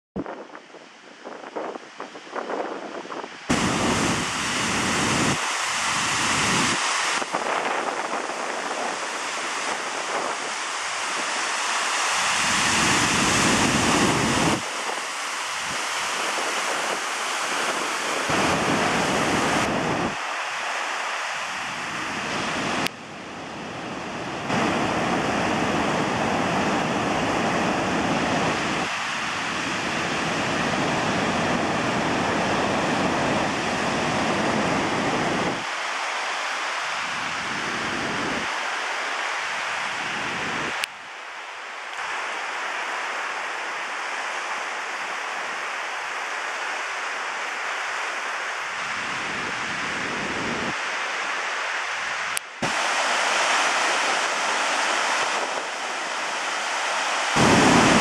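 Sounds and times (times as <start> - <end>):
wind on microphone: 0.2 - 20.6, 21.3 - 35.9, 36.9 - 38.8, 39.5 - 40.9, 48.8 - 50.9, 51.9 - 58.0
waterfall rushing: 3.4 - 40.8, 41.4 - 58.0.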